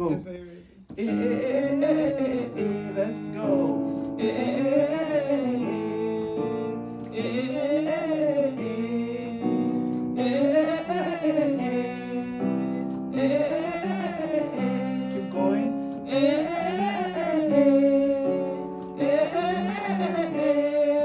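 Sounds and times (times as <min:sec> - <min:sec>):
instrumental accompaniment: 0:00.0 - 0:21.0
person singing vowel exercise: 0:00.6 - 0:21.0.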